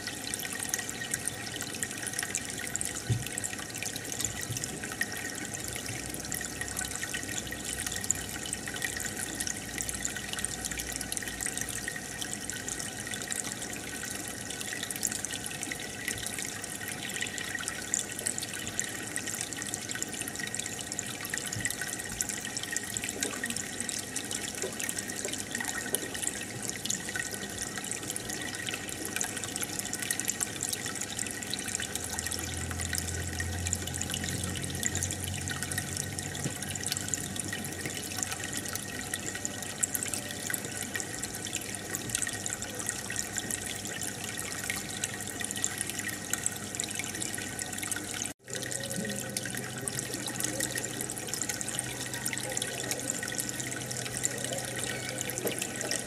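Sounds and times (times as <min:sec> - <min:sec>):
aquarium water bubbling: 0:00.0 - 0:56.0.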